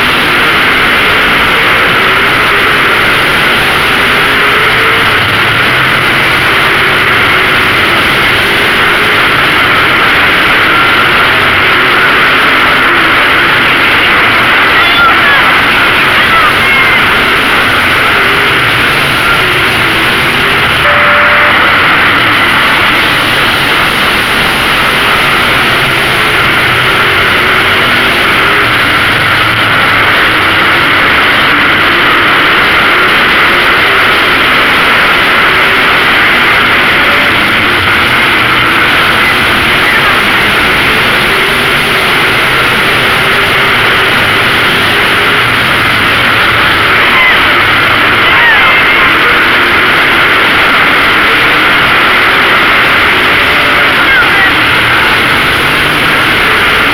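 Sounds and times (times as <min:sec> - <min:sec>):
race car engines roaring: 0:00.0 - 0:56.9.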